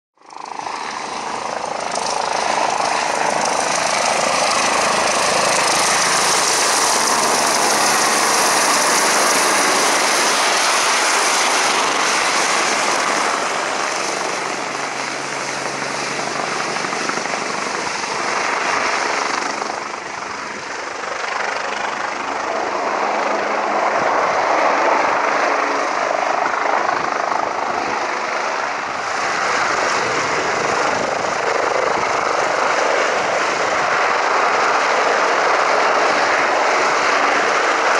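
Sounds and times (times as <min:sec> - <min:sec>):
helicopter engine and rotor noise: 0:00.2 - 0:37.9.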